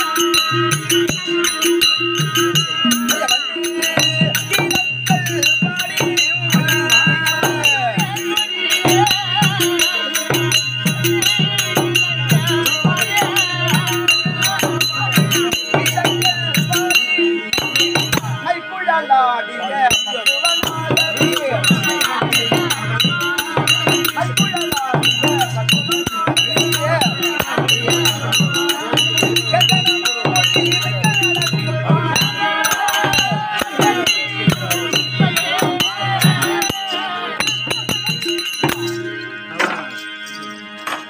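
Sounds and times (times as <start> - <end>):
jingling rattle percussion: 0.0 - 18.4, 19.7 - 41.0
steady drum beat: 0.0 - 18.5, 19.9 - 39.2
wavering melody: 0.0 - 41.0.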